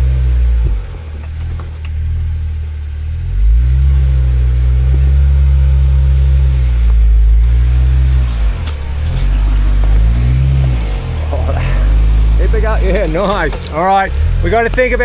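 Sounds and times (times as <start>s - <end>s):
off-road engine revving: 0.0s - 15.0s.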